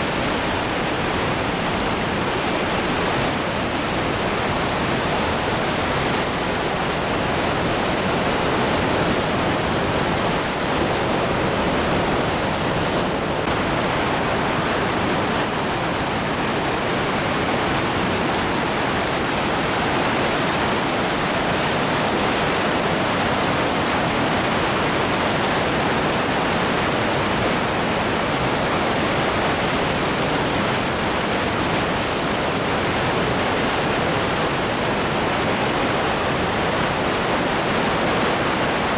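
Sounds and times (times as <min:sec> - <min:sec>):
waterfall roar: 0:00.0 - 0:38.9.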